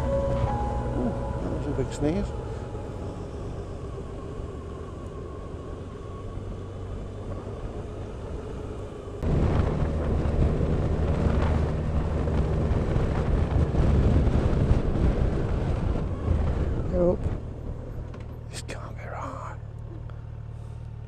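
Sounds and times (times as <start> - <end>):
motorcycle engine hum: 0.0 - 21.0
road noise: 0.0 - 21.0.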